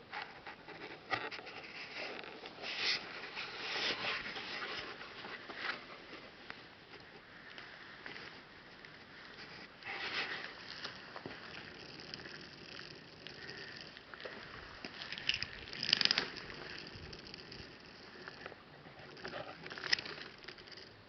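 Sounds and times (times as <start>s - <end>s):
wood fire crackling: 2.4s - 21.0s.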